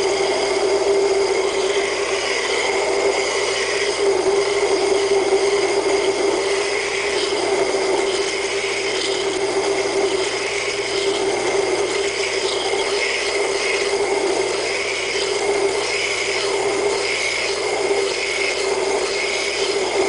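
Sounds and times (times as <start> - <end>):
belt grinder grinding knife blade: 0.0 - 20.0
grinder motor hum: 0.0 - 20.0.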